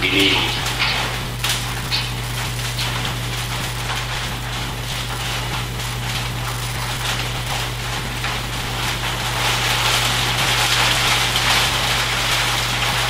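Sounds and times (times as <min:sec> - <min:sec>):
hiss with faint crackle: 0:00.0 - 0:13.0
low electrical hum: 0:00.0 - 0:13.0.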